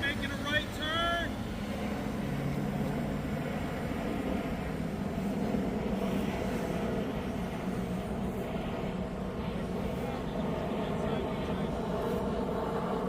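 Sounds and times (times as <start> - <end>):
model airplane motor droning: 0.0 - 13.0.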